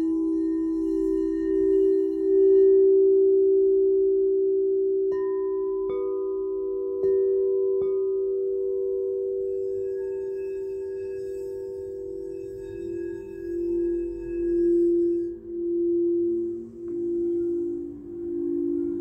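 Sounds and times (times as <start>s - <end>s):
deep singing bowl ringing: 0.0s - 19.0s.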